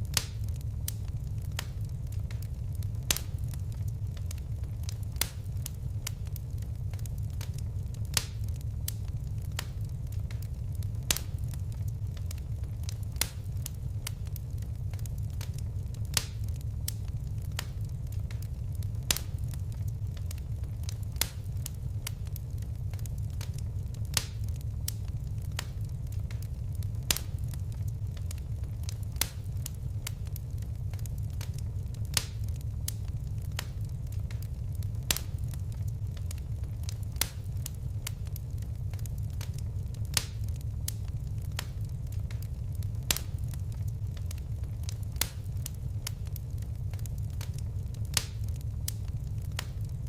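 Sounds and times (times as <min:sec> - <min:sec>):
fire crackling: 0:00.0 - 0:50.0
fire popping: 0:00.0 - 0:50.0.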